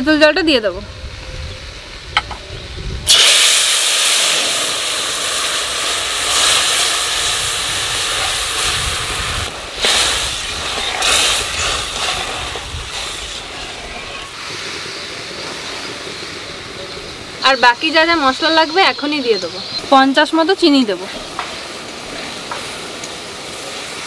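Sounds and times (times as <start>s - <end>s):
liquid sizzling in hot oil: 3.0s - 16.6s, 17.4s - 24.0s.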